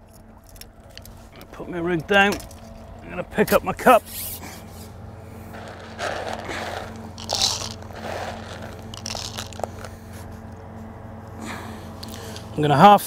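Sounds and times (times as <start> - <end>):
fishing tackle rustling and scraping: 0.0 - 12.6.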